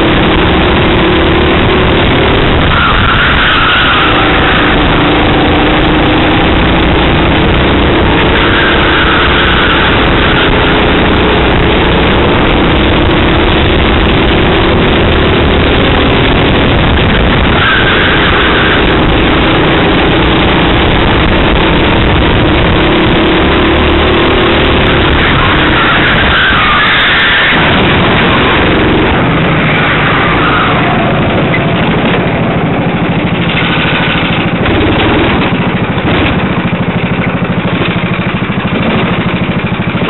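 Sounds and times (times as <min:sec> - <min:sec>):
dense rush of noise: 0:00.0 - 0:40.0
racing kart engine: 0:00.0 - 0:40.0.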